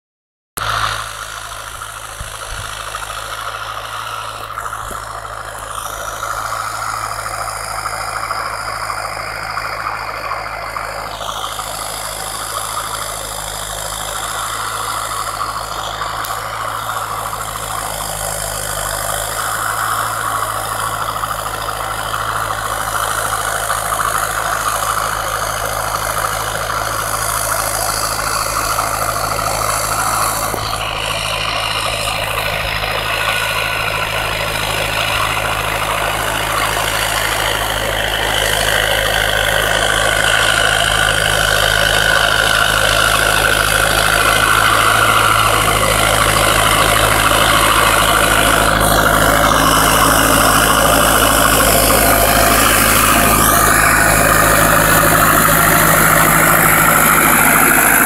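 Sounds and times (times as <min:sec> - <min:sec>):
tractor diesel engine under load: 0:00.6 - 0:58.0.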